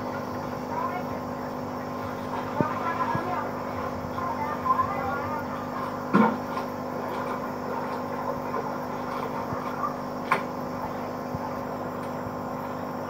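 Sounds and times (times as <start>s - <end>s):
aquarium pump humming: 0.0s - 13.0s
water bubbling: 0.0s - 13.0s.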